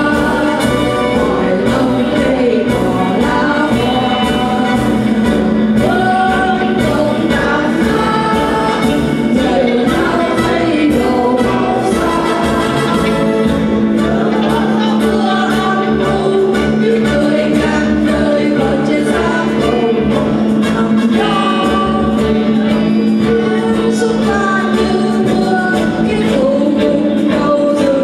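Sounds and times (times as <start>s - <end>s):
instrumental accompaniment with beat: 0.0s - 28.0s
mixed choir singing: 0.0s - 28.0s.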